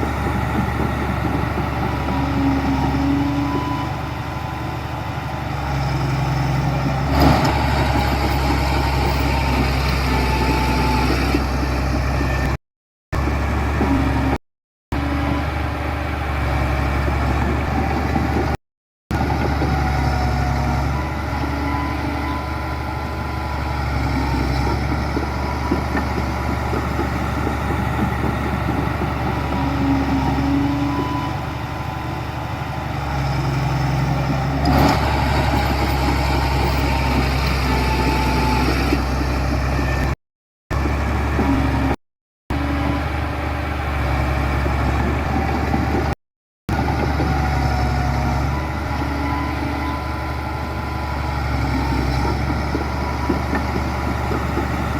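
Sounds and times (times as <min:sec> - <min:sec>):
heavy machinery diesel engines: 0:00.0 - 0:12.6, 0:13.2 - 0:54.9.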